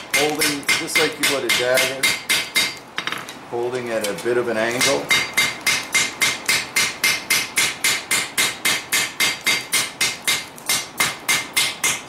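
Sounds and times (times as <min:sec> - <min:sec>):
hammer striking metal on anvil: 0:00.1 - 0:03.2, 0:04.8 - 0:12.0.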